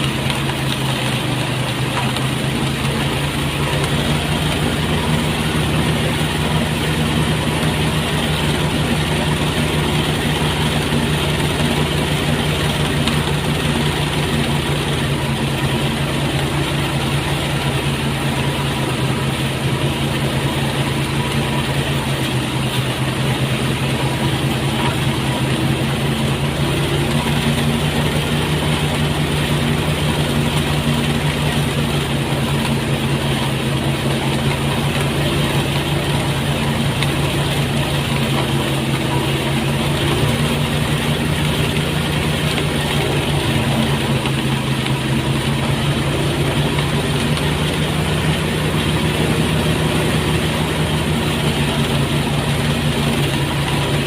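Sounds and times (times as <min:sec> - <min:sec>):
steady noisy rush: 0:00.0 - 0:54.0
threshing machine engine drone: 0:00.0 - 0:54.0.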